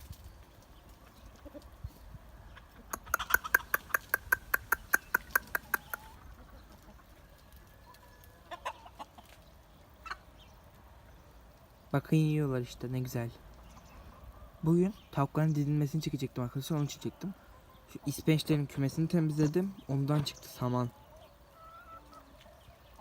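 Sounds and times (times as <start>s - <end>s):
chickens clucking: 0.6s - 11.2s, 13.4s - 15.0s, 15.9s - 23.0s.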